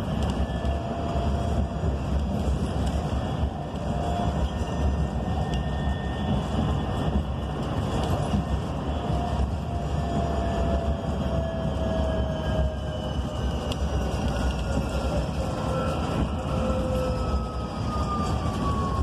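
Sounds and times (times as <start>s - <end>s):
road and tyre rumble: 0.0s - 19.0s.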